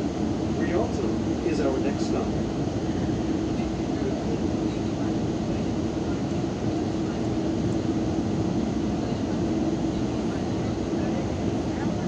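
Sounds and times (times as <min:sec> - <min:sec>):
train interior rumble: 0:00.0 - 0:12.0.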